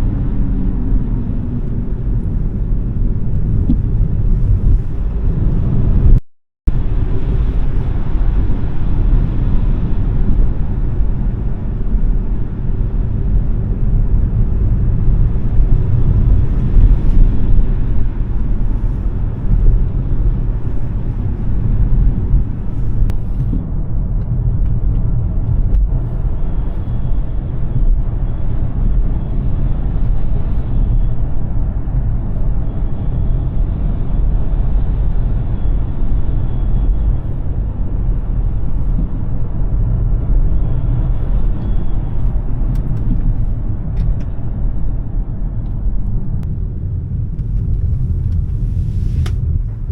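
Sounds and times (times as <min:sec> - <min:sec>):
road and tyre noise: 0:00.0 - 0:49.9.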